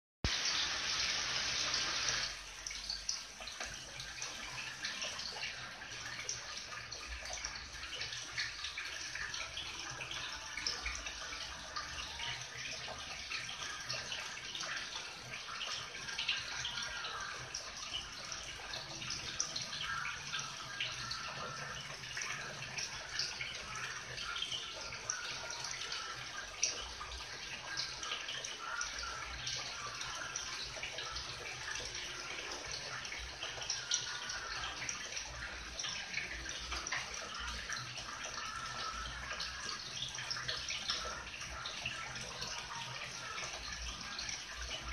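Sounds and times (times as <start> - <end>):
small waterfall splashing into pond: 0.2 - 44.9.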